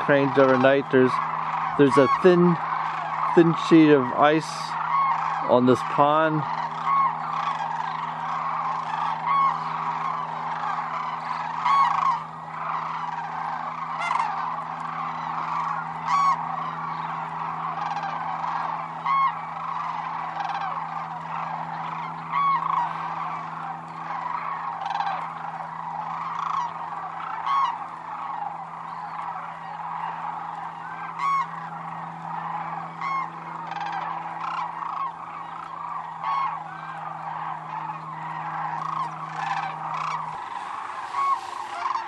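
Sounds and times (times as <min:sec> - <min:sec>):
flock of cranes calling: 0:00.0 - 0:42.0
nearby crane calls: 0:00.0 - 0:42.0.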